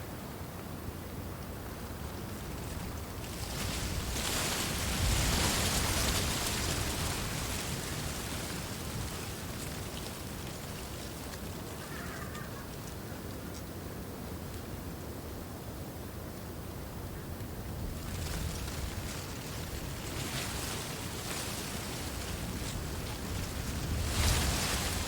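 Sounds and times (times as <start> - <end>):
wind rustling through reeds: 0.2 - 25.0.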